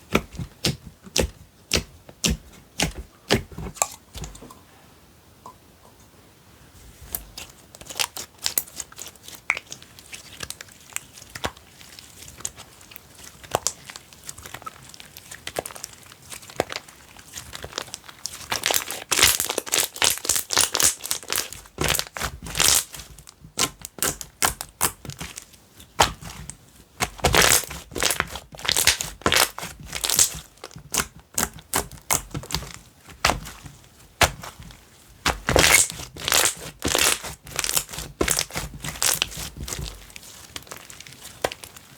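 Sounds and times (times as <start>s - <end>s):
slime crackling and popping: 7.1s - 41.9s.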